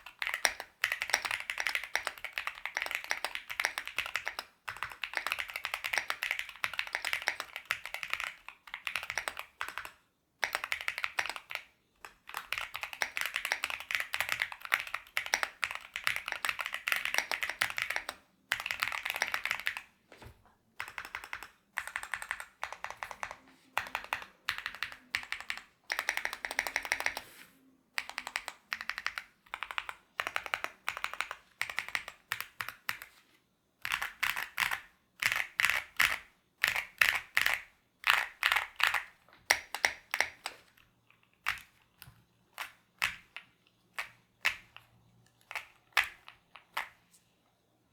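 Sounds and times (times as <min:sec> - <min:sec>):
mechanical keyboard typing: 0:00.0 - 0:19.9, 0:20.8 - 0:27.3, 0:28.0 - 0:33.2, 0:33.8 - 0:47.0.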